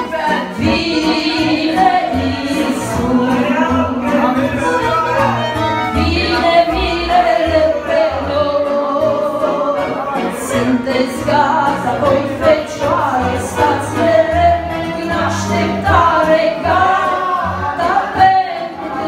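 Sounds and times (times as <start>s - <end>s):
woman singing a hymn: 0.0s - 4.0s, 6.0s - 9.9s, 10.6s - 18.8s
instrumental backing with bass: 0.0s - 19.0s.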